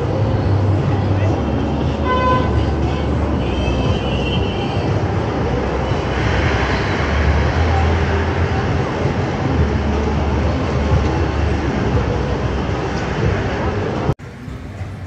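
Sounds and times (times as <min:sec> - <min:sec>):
rumble of heavy vehicles: 0:00.0 - 0:15.0.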